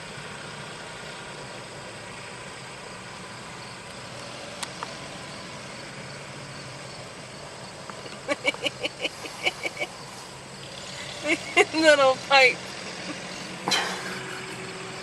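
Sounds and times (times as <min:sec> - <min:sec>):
engines idling: 0:00.0 - 0:15.0.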